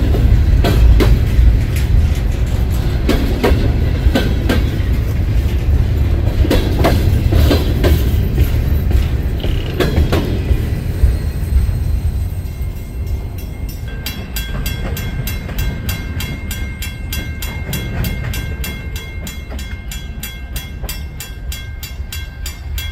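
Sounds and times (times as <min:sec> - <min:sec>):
crossing bell ringing: 0:00.0 - 0:22.9
freight train rumble: 0:00.0 - 0:22.9.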